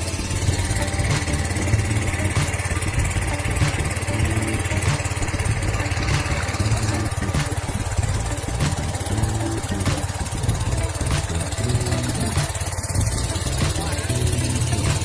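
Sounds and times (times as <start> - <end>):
engine running: 0.0 - 15.0
faint ticking: 0.0 - 15.0.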